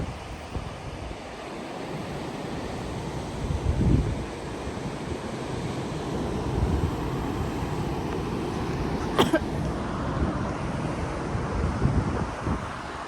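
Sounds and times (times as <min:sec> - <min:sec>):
rushing outdoor noise: 0:00.0 - 0:13.0
wind buffeting microphone: 0:00.0 - 0:13.0.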